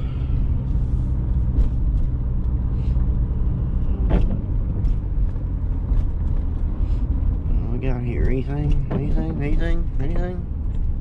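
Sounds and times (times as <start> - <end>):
pickup truck engine and road rumble: 0.0 - 11.0.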